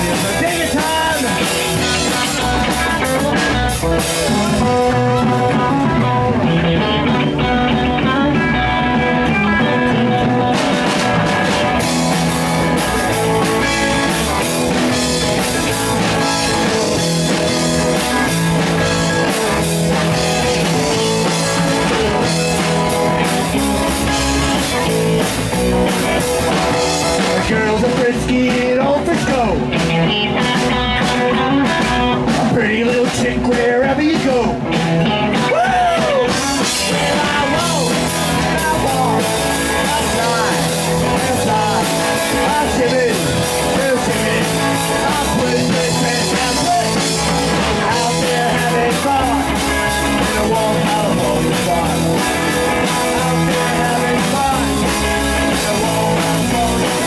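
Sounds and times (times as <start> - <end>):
drum kit beat: 0.0 - 57.0
electric guitars: 0.0 - 57.0.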